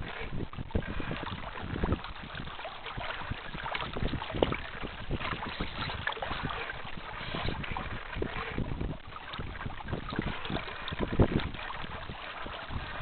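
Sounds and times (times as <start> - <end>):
water slapping against hull: 0.0 - 13.0
wind buffeting microphone: 0.0 - 13.0.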